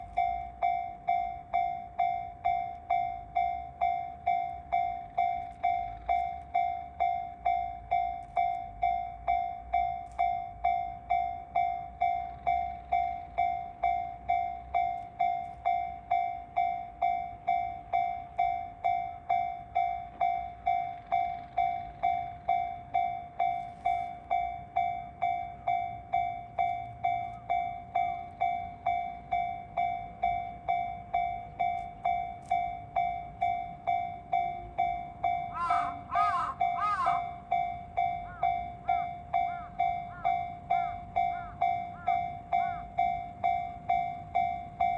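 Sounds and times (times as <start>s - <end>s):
level crossing alarm dinging: 0.0s - 44.9s.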